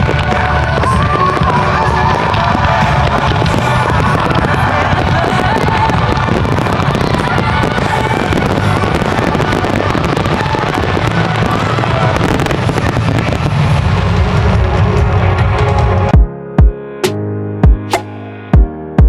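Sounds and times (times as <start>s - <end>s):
fireworks crackling and banging: 0.0s - 16.1s
music: 0.0s - 19.0s.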